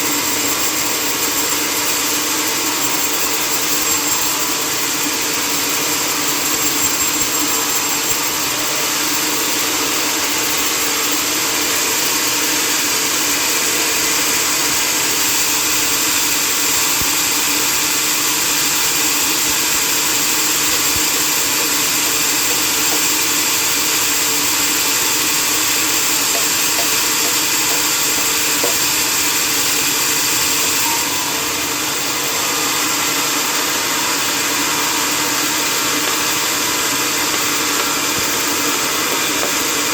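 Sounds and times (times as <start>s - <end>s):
sawmill machinery whirring: 0.0s - 39.9s.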